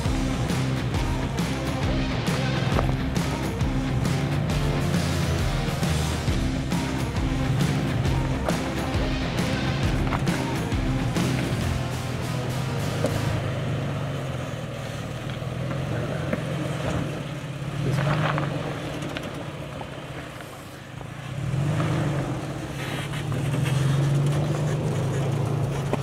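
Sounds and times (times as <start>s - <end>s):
pickup engine running: 0.0s - 26.0s.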